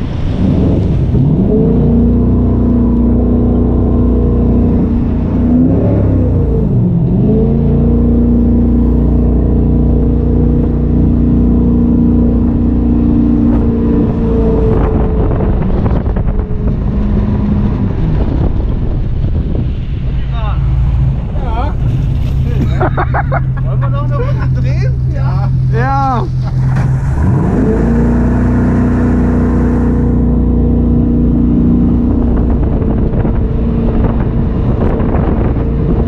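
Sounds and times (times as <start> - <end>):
boat engine running hard: 0.0 - 36.0
wind and water rushing: 0.0 - 36.0.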